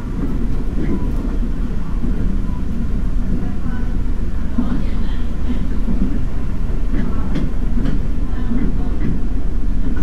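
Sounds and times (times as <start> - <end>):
railcar engine rumble: 0.0 - 10.0.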